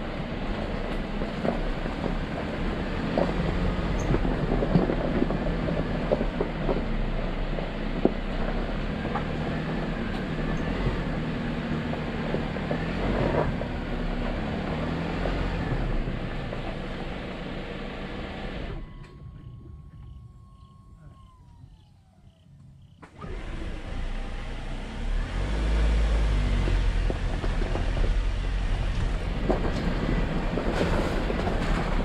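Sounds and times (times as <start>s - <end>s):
tyres on gravel: 0.0s - 21.8s, 22.6s - 32.0s
low engine hum: 0.0s - 32.0s.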